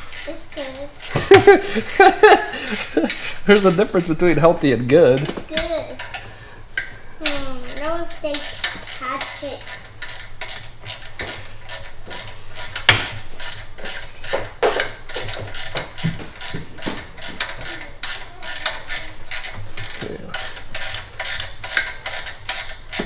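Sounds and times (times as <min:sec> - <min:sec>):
ratchet wrench clicking: 0:00.0 - 0:23.0.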